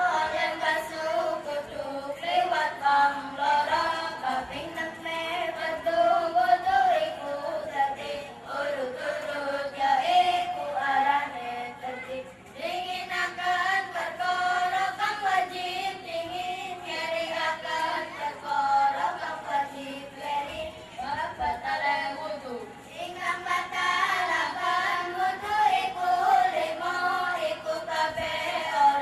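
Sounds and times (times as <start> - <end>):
young children singing in unison: 0.0 - 29.0.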